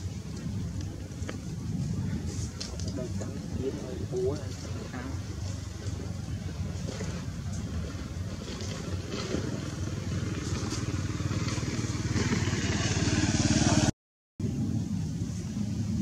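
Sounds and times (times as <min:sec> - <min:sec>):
vehicle engine running: 0:03.2 - 0:16.0.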